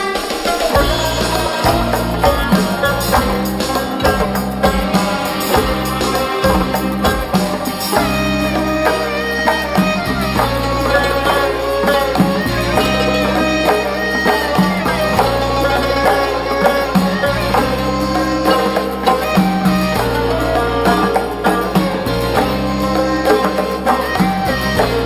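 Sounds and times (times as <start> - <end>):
folk instrumental melody: 0.0 - 25.0
jingling drum strokes: 0.0 - 25.0.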